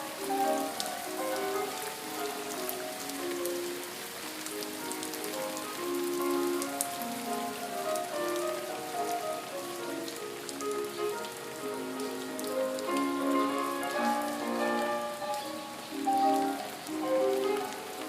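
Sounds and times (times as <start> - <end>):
rain falling: 0.0 - 18.0
slow music of held notes: 0.0 - 18.0.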